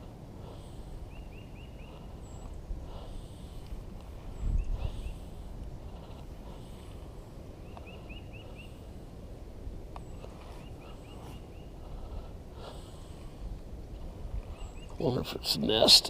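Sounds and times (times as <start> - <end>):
wind rumbling on microphone: 0.0 - 15.8
bird chirping: 0.4 - 9.0, 9.9 - 15.9.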